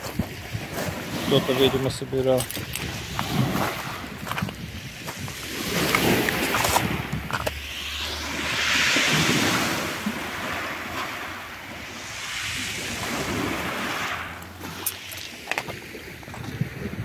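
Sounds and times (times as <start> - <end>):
waves washing up pebble beach: 0.0 - 17.0
wind rumble on microphone: 0.0 - 17.0.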